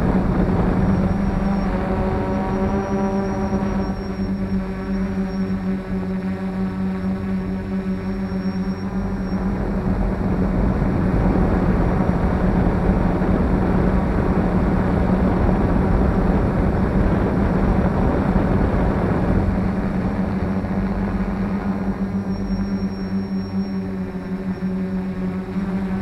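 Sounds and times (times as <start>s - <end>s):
quadcopter motors buzzing: 0.0s - 26.0s.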